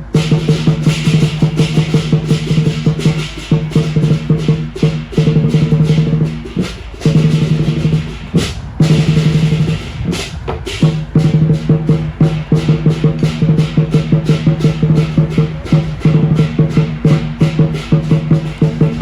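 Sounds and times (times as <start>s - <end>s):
cymbals clashing: 0.0s - 19.0s
large drum rolls: 0.0s - 19.0s.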